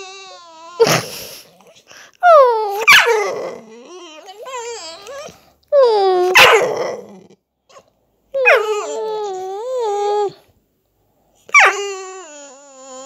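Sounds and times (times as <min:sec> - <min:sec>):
dog whining: 0:00.0 - 0:10.5, 0:11.5 - 0:13.0.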